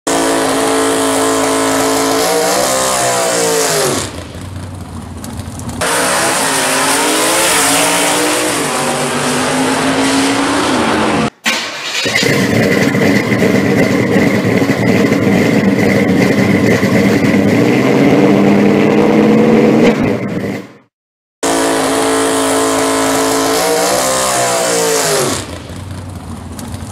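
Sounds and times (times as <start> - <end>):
drag car engines revving: 0.1 - 26.9.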